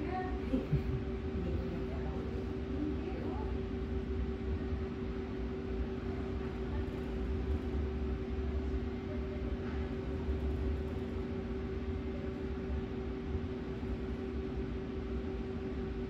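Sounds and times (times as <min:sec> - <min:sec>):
low machine rumble: 0:00.0 - 0:16.0
steady humming tones: 0:00.0 - 0:16.0.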